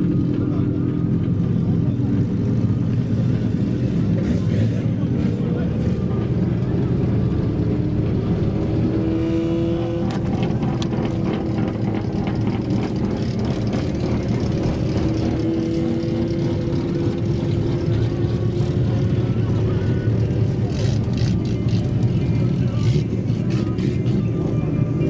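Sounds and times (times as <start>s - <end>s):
car engines cruising: 0.0s - 25.0s.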